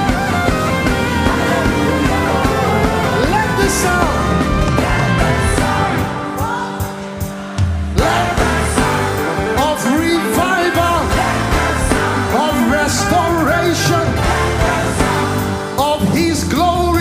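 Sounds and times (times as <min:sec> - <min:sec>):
gospel band playing: 0:00.0 - 0:17.0.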